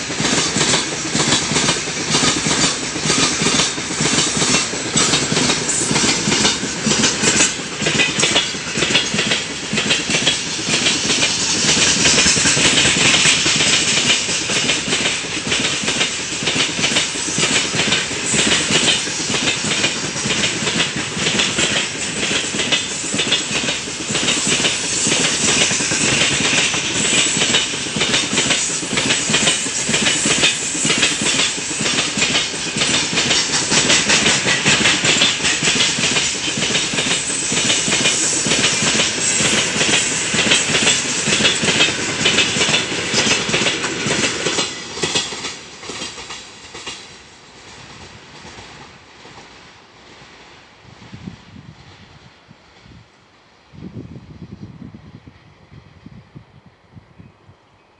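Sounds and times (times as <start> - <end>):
wheels clicking over rail joints: 0.0 - 47.2
train wheels rushing on rail: 0.0 - 56.7.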